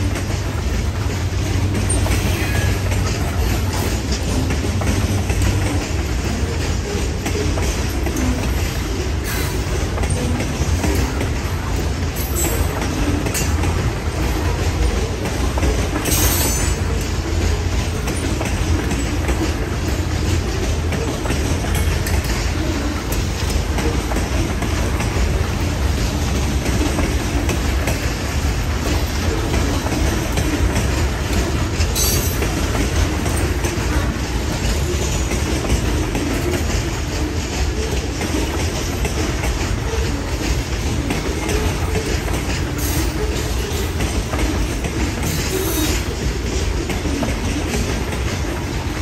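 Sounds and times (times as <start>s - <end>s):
freight train rolling past: 0.0s - 49.0s
steel wheels clattering on rails: 0.0s - 49.0s.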